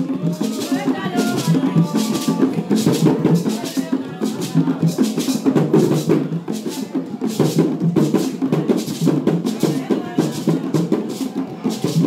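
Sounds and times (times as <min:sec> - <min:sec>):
hand-played box drums: 0:00.0 - 0:12.0
stick-beaten drum: 0:00.0 - 0:12.0.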